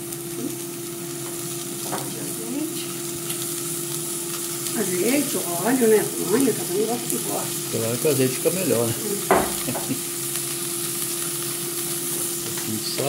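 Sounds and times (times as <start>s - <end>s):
onion rings sizzling in oil: 0.0s - 13.0s
steady hum: 0.0s - 13.0s.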